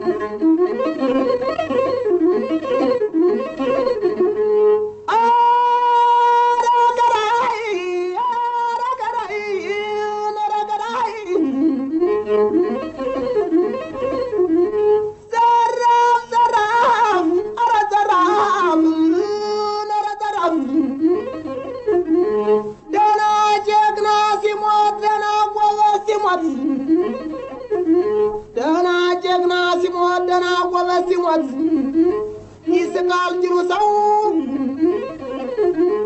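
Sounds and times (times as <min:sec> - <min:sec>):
bowed string instrument melody: 0:00.0 - 0:05.5, 0:06.1 - 0:36.0.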